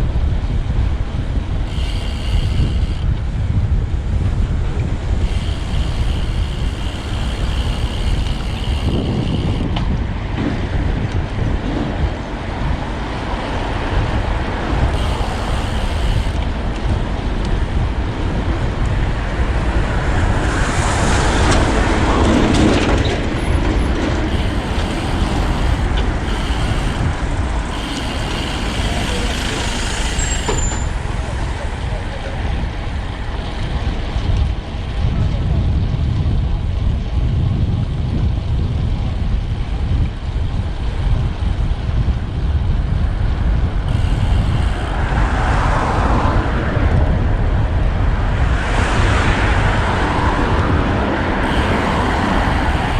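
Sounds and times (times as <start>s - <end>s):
road traffic: 0.0s - 52.9s
wind rumble on microphone: 0.0s - 52.9s.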